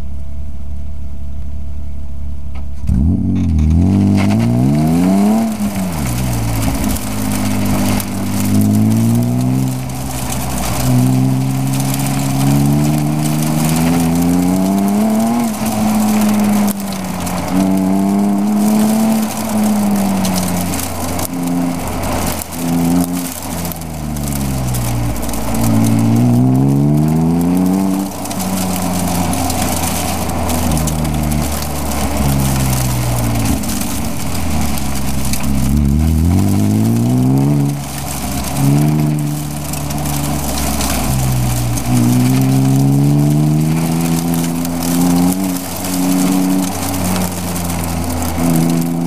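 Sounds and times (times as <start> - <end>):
car engine revving hard: 2.8 - 49.0.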